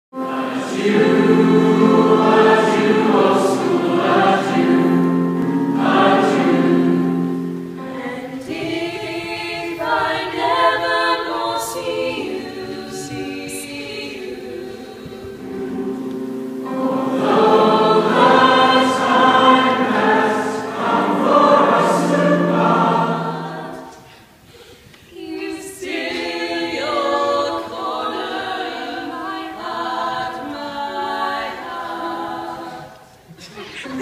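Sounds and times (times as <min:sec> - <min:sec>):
choir singing: 0:00.2 - 0:24.4, 0:25.1 - 0:33.1.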